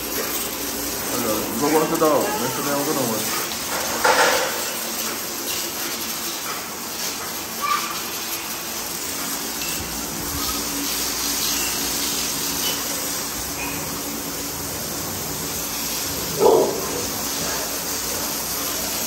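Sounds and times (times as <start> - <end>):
water spraying from a hose: 0.0 - 19.0.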